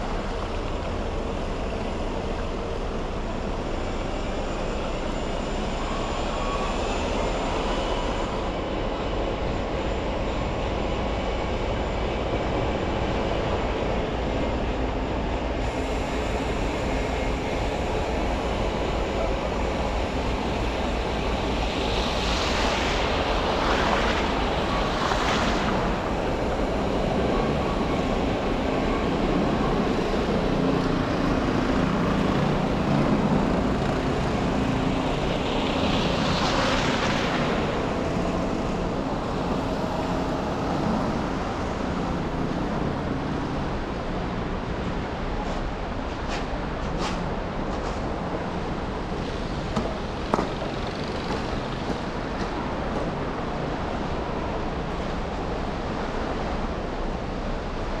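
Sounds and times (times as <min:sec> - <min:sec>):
road noise hiss: 0:00.0 - 0:58.0.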